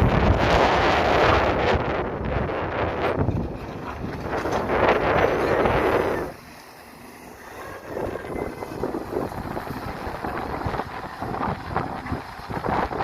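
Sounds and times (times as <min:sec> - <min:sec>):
wind buffeting microphone: 0:00.0 - 0:06.5, 0:07.3 - 0:13.0
excavator diesel engine running: 0:00.0 - 0:13.0.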